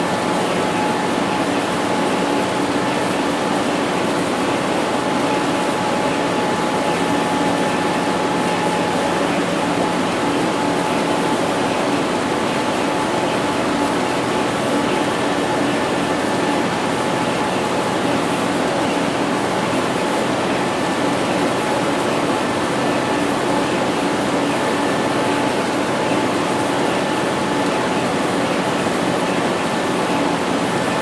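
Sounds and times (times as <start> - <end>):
machinery hum: 0.0 - 31.0.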